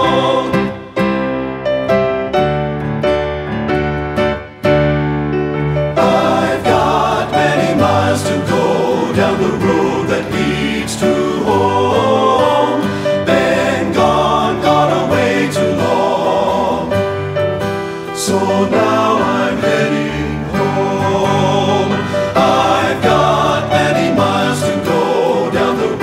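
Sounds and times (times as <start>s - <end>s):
men's choir singing in harmony: 0.0s - 1.2s, 6.0s - 26.0s
piano accompaniment: 0.0s - 26.0s.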